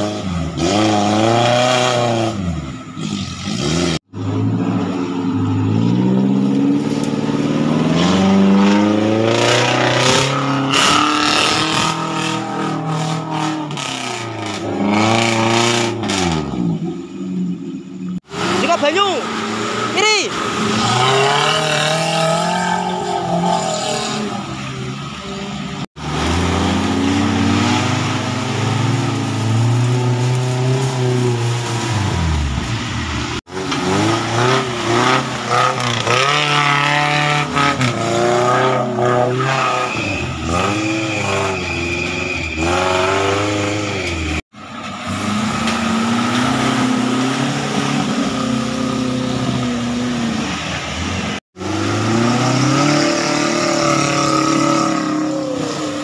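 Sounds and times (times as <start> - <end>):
off-road vehicle engines revving: 0.0 - 56.0.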